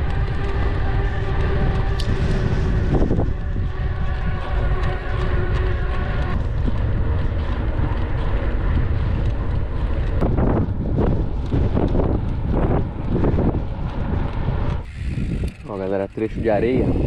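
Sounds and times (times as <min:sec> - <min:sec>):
low rumble of bike ride: 0:00.0 - 0:17.0
wind buffeting microphone: 0:00.0 - 0:17.0.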